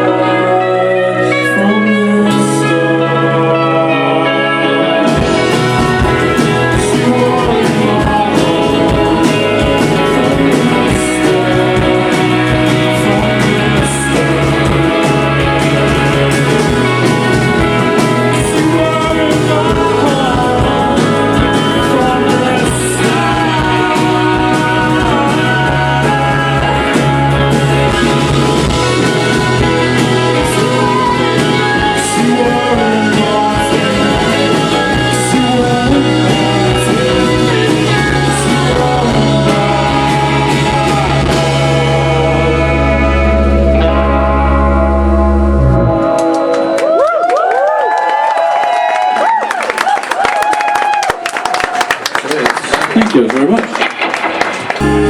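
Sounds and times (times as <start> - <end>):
person singing: 0.0 - 47.8, 54.8 - 55.0
bass guitar: 0.0 - 55.0
drums: 0.0 - 55.0
electric guitars: 0.0 - 55.0.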